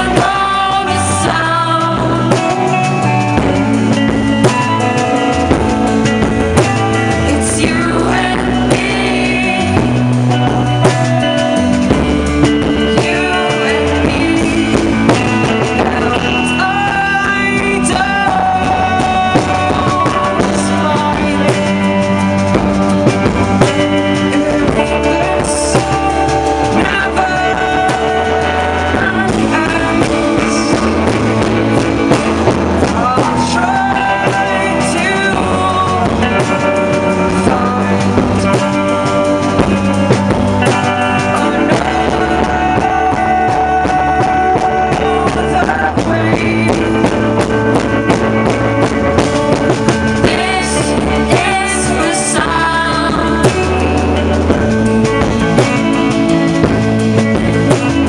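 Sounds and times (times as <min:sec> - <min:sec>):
pop-rock song with vocals: 0:00.0 - 0:58.0.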